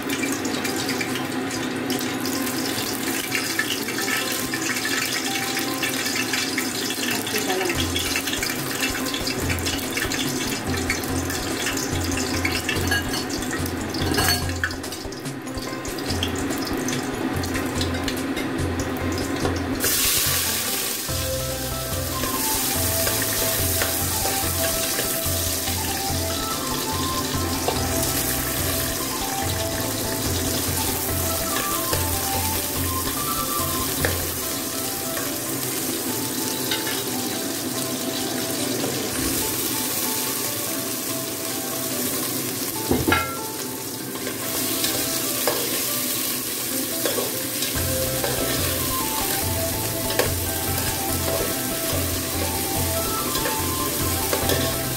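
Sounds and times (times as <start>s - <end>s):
sizzling in hot oil: 0.0s - 54.9s.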